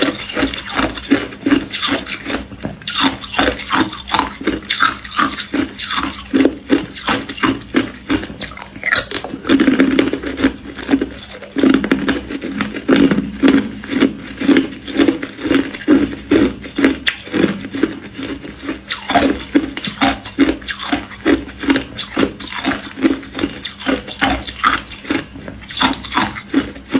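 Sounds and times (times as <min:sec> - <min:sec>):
chewing crisp ice: 0:00.0 - 0:26.9.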